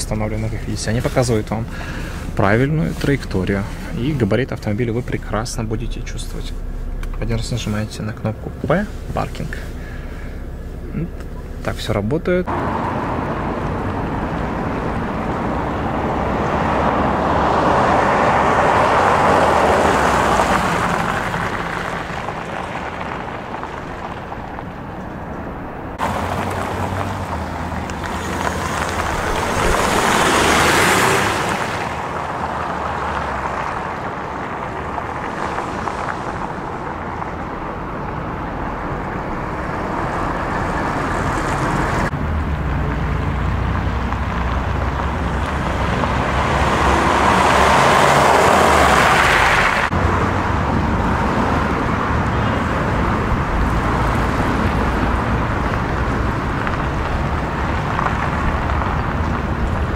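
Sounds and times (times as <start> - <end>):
rushing road vehicle noise: 0.0 - 59.9.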